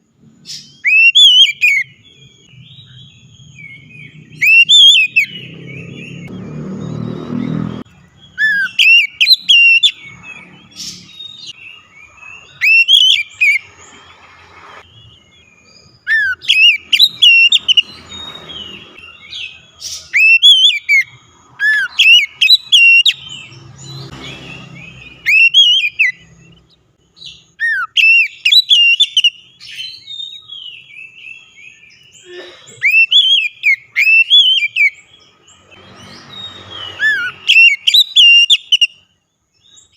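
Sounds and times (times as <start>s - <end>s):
bird singing whistled phrases: 0.5s - 7.4s, 8.2s - 13.6s, 15.0s - 23.4s, 24.8s - 26.5s, 27.2s - 32.2s, 32.8s - 35.0s, 36.8s - 39.0s.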